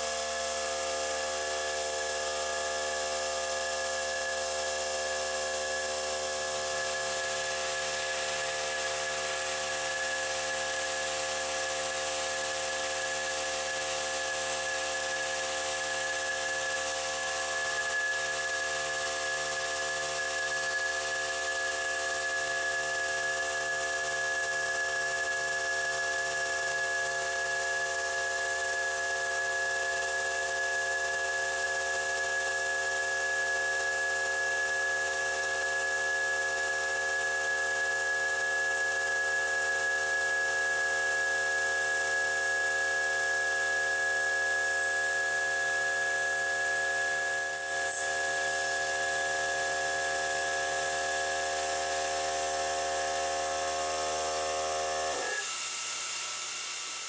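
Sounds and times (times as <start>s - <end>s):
falling high whistle: 0.0s - 53.7s
milling machine spindle whine: 0.0s - 56.8s.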